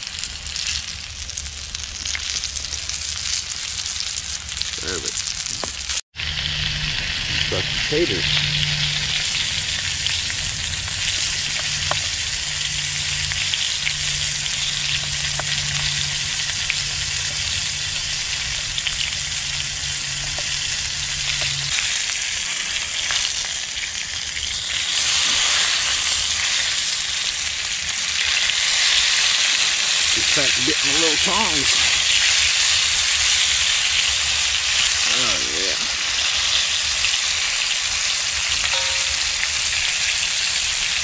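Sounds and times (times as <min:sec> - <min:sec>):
meat frying in hot oil: 0:00.0 - 0:41.0.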